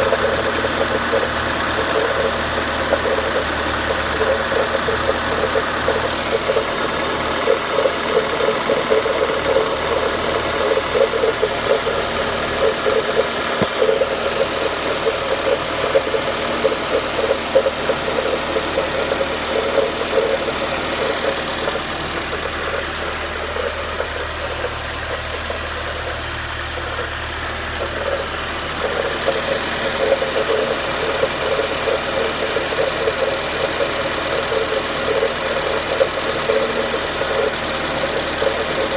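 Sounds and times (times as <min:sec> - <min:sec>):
engine idling with knocking: 0:00.0 - 0:38.9.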